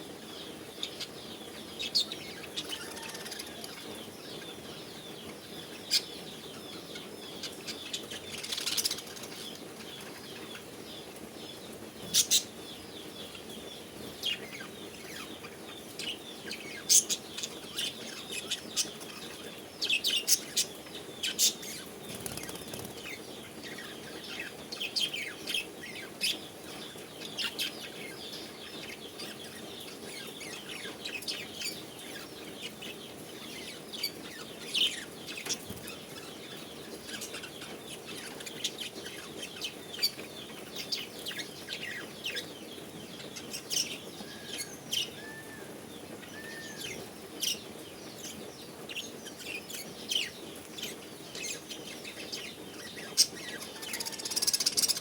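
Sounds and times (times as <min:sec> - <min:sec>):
birds chirping and squawking: 0:00.5 - 0:55.0.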